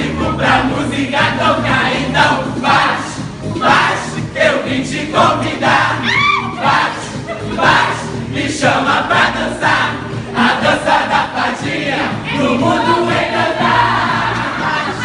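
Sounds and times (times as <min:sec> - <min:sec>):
group of voices singing along: 0:00.0 - 0:15.0
loud dance music: 0:00.0 - 0:15.0.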